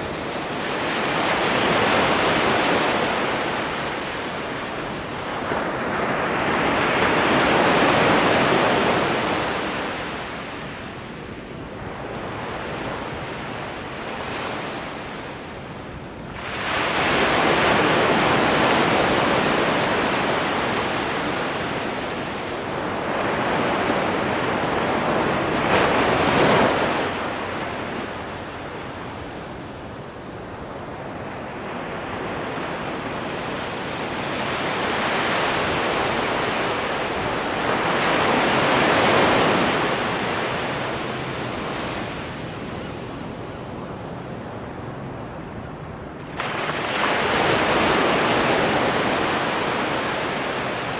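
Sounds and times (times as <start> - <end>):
waves breaking on a beach: 0.0 - 50.9.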